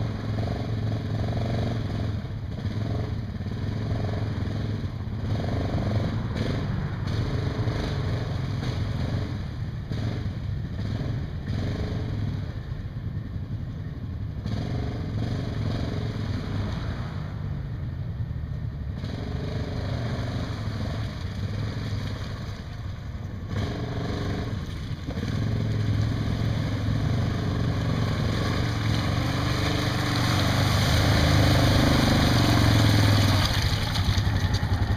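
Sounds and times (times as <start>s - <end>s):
atv engine revving: 0.0s - 12.6s, 14.2s - 17.1s, 18.8s - 22.6s, 23.3s - 34.9s.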